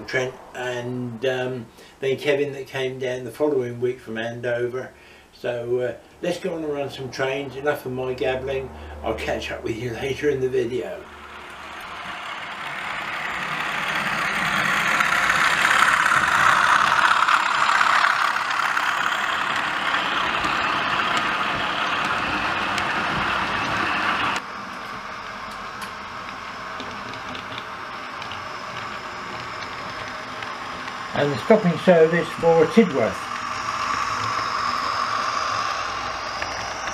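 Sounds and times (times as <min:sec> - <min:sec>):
model train running: 0:00.0 - 0:36.9.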